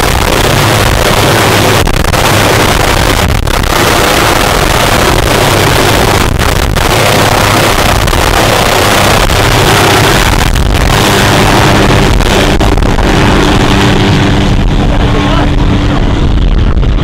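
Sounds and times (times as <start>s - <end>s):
helicopter rotor and turbine: 0.0s - 17.0s
wind noise on microphone: 0.0s - 17.0s.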